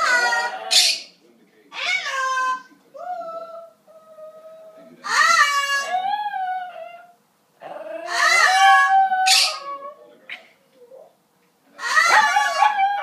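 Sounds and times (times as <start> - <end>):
dog howling: 0.0 - 1.1, 1.8 - 10.0, 11.8 - 13.0.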